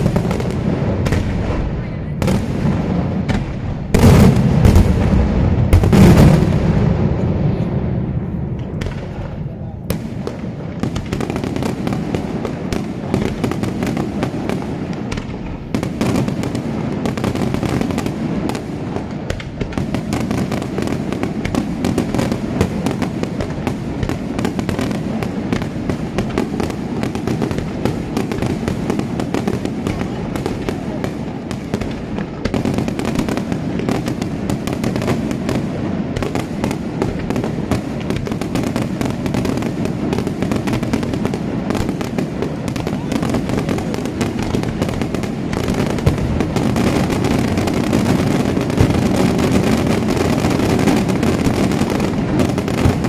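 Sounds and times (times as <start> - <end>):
fireworks bangs and crackling: 0.0 - 53.0.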